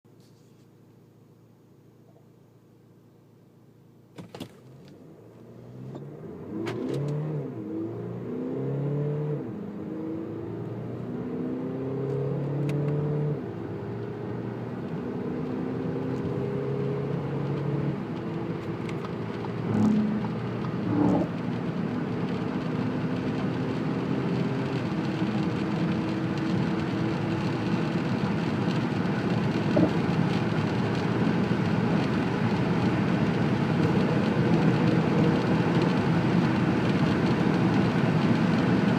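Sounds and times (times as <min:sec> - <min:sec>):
road and wind noise: 0:04.2 - 0:38.9
car engine accelerating: 0:04.6 - 0:38.9.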